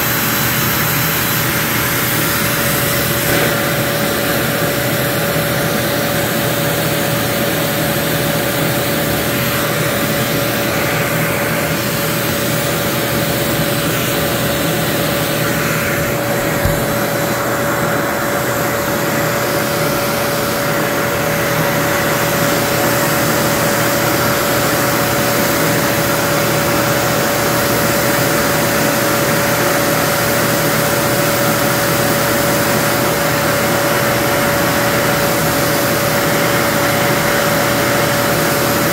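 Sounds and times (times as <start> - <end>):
air blower motor droning: 0.0 - 38.9.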